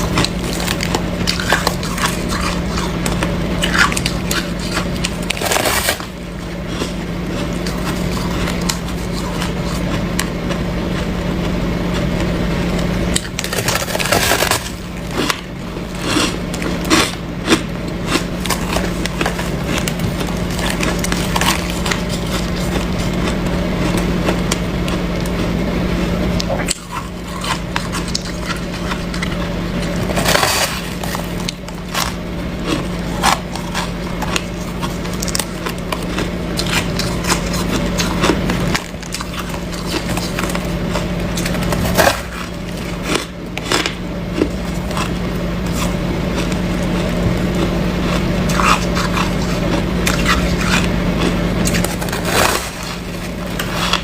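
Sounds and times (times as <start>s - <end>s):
chewing ice crunching: 0.0s - 54.0s
low hum: 0.0s - 54.0s.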